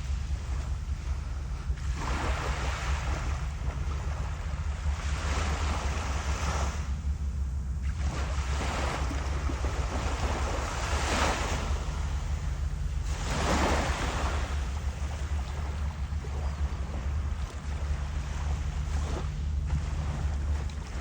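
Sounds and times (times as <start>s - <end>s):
waves washing in: 0.0s - 21.0s
wind rumbling on microphone: 0.0s - 21.0s.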